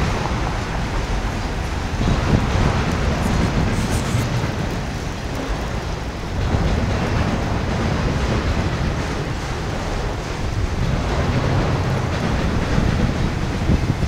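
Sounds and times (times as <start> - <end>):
steel wheels rumbling on track: 0.0 - 14.0.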